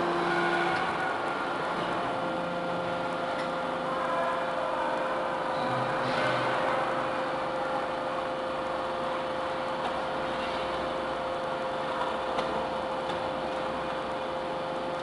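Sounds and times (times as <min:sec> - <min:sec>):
constant machine whine: 0:00.0 - 0:15.0
hydraulic machine hum: 0:00.0 - 0:15.0.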